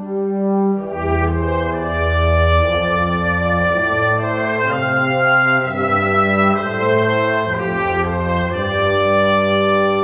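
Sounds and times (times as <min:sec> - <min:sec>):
slow brass chords: 0:00.0 - 0:10.0.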